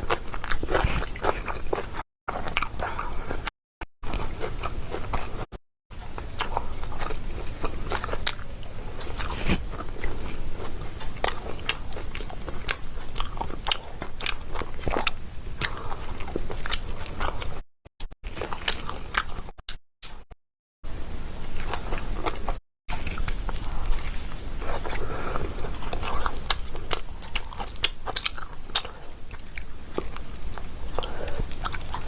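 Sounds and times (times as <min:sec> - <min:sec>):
crunchy biting and chewing: 0:00.0 - 0:05.5, 0:06.1 - 0:17.6, 0:18.2 - 0:20.3, 0:21.3 - 0:32.0.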